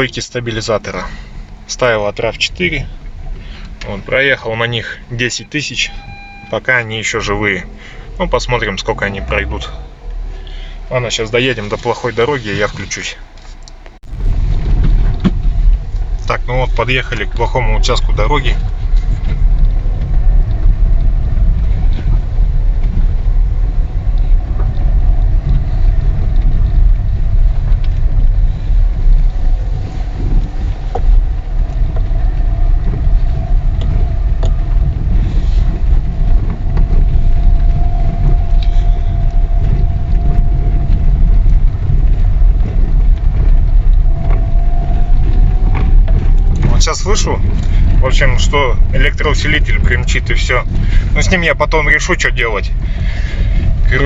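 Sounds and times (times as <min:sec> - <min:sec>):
car tyres rumbling on rough road: 0:00.0 - 0:54.0.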